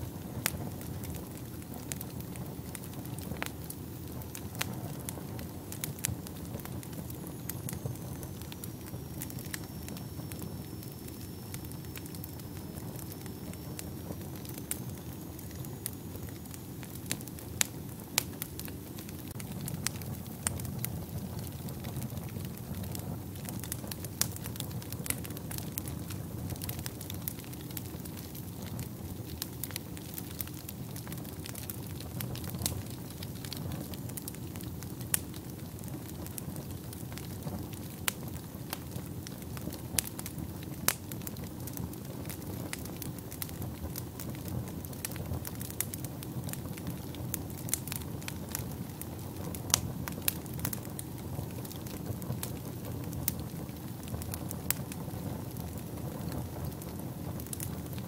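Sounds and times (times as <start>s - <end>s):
burning logs crackling and popping: 0.0s - 58.0s
low rush of flames: 0.0s - 58.0s.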